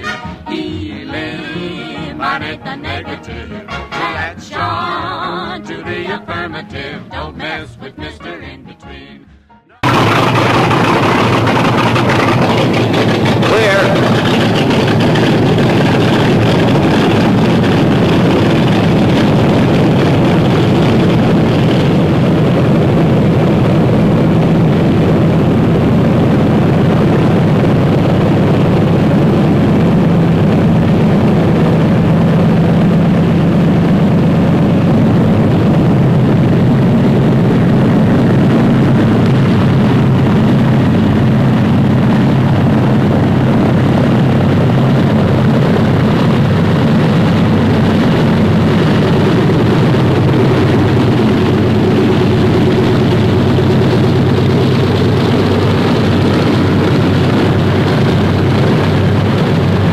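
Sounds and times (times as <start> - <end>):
propeller aircraft engines droning: 0.0 - 8.3, 9.3 - 59.9.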